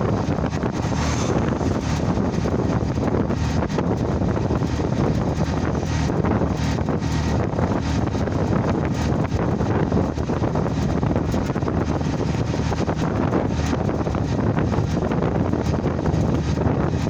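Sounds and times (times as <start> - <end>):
moving vehicle rumble: 0.0 - 17.0
wind buffeting microphone: 0.0 - 17.0.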